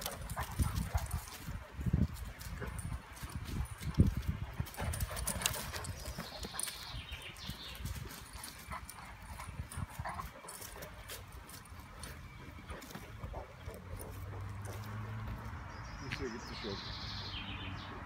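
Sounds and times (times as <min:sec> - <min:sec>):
dogs scuffling paws on grass: 0:00.0 - 0:16.5.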